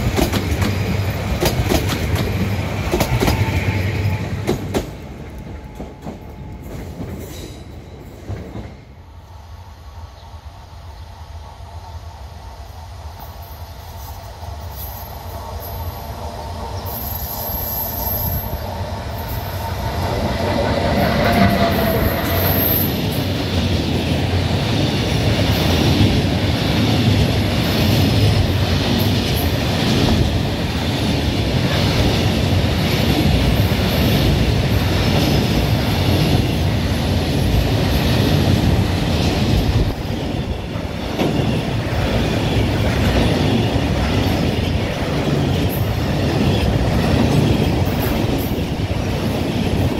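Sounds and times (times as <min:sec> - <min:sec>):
electric locomotive passing: 0:00.0 - 0:49.9.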